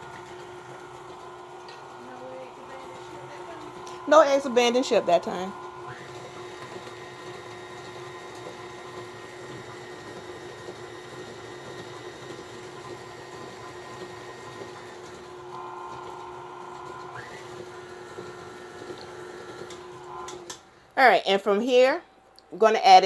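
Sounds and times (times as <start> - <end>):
stand mixer running: 0.0 - 20.7.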